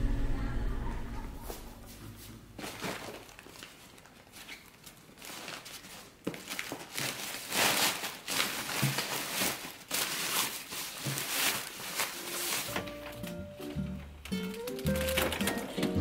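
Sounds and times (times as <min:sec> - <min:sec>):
bag liner and plastic crinkling: 0:02.5 - 0:16.0.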